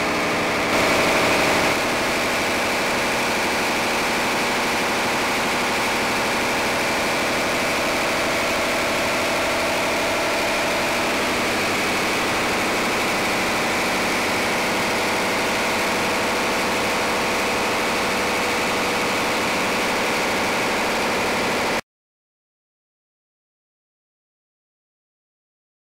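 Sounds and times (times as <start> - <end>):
diesel engine running: 0.0 - 21.8.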